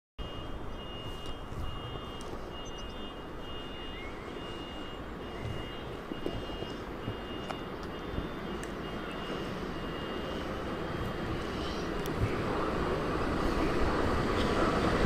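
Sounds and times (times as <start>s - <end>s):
faint high whine: 0.2s - 15.0s
low rumble of rail traffic: 0.2s - 15.0s.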